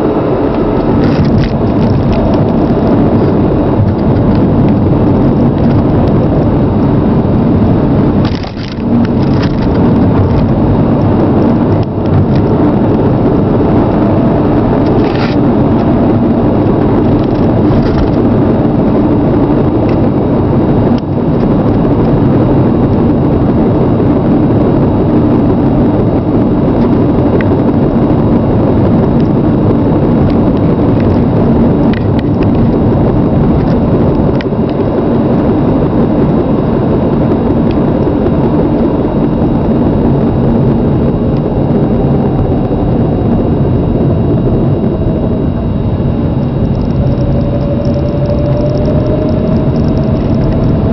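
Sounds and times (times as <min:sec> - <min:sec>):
car road noise: 0:00.0 - 0:50.9.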